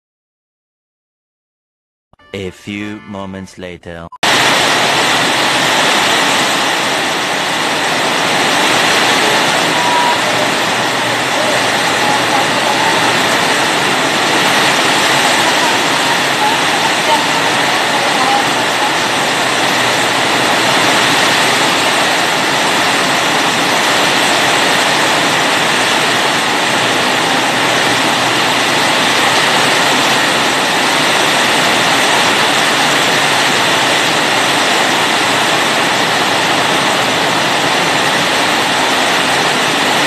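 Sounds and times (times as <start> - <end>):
heavy rain: 4.2 - 40.0
strong wind: 4.3 - 40.0.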